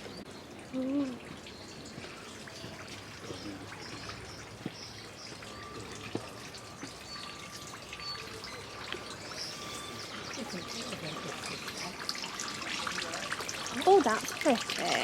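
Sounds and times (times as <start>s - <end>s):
water drips: 0.0s - 15.0s
water trickling: 0.0s - 15.0s.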